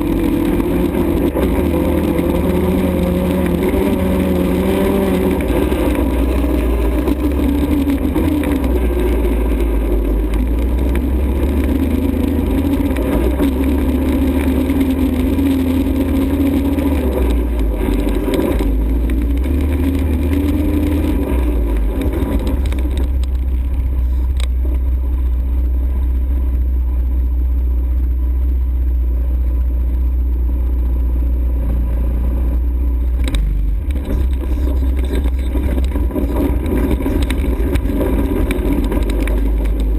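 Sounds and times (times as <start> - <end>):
atv engine revving: 0.0 - 39.9
heavy low rumble: 0.0 - 39.9.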